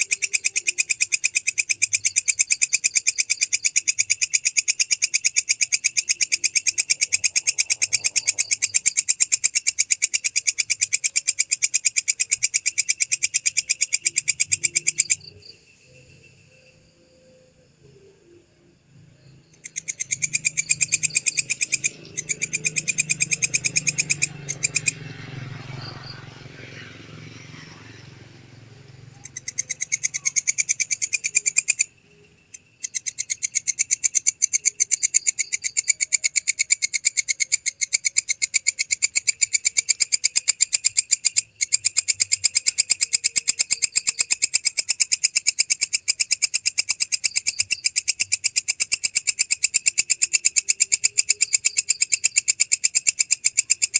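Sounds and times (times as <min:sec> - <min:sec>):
katydid stridulating ticks: 0:00.0 - 0:15.6, 0:19.5 - 0:25.1, 0:29.2 - 0:31.9, 0:32.5 - 0:53.9.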